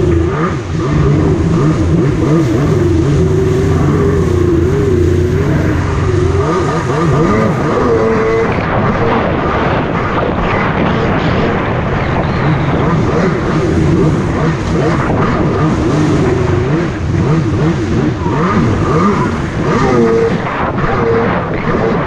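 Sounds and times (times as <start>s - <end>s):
jet ski engine running: 0.0s - 22.0s
rush of wind and water: 0.0s - 22.0s.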